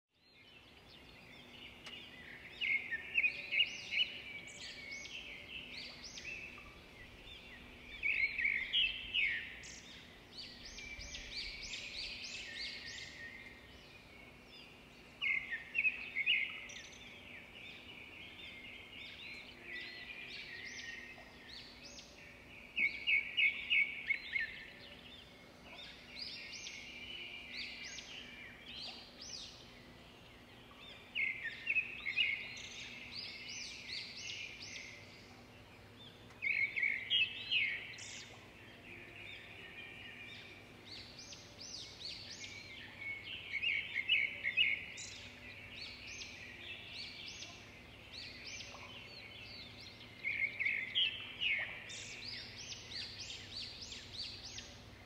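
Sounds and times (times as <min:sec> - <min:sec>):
faint steady hum: 0:00.4 - 0:55.0.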